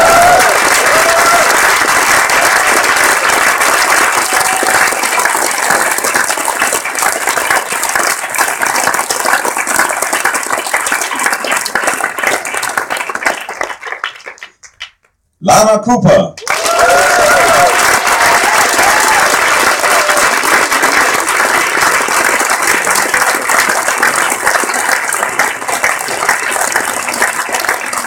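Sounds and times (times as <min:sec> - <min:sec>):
audience applauding: 0:00.0 - 0:15.0, 0:16.4 - 0:28.0.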